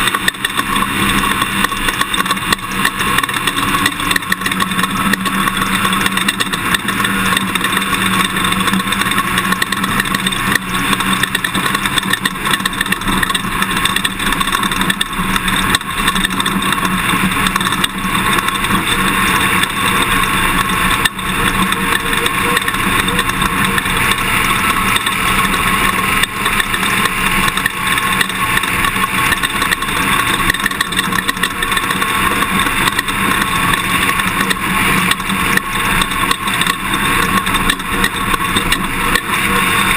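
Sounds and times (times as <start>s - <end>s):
knocks and rattles: 0.0s - 39.9s
pickup truck engine running: 0.0s - 39.9s.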